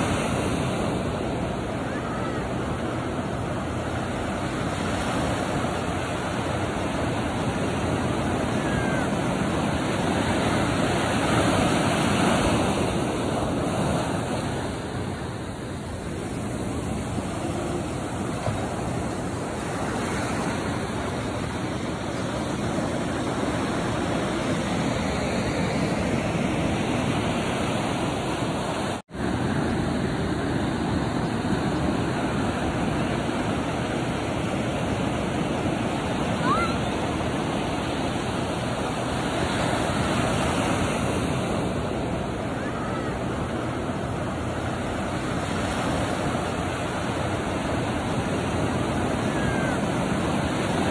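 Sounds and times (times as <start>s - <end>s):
waves washing up a beach: 0.0s - 50.9s.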